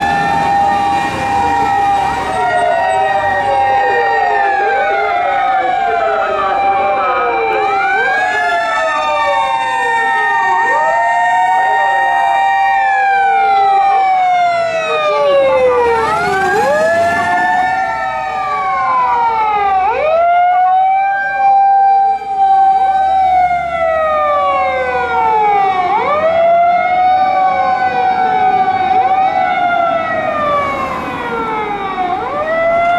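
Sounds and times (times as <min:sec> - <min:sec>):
fire truck sirens wailing: 0:00.0 - 0:32.9.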